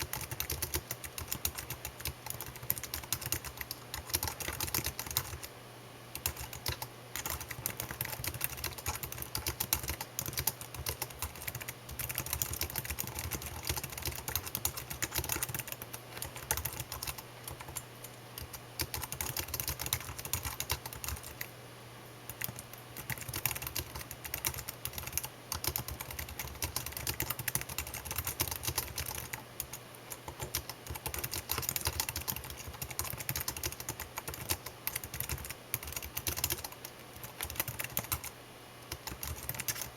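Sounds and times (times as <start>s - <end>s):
computer keyboard typing: 0.0s - 5.5s, 6.1s - 21.5s, 22.3s - 38.3s, 38.9s - 39.9s.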